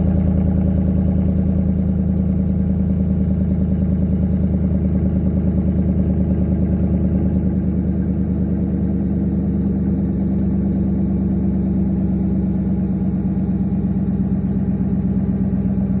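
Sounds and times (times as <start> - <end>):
exhaust idling: 0.0 - 16.0.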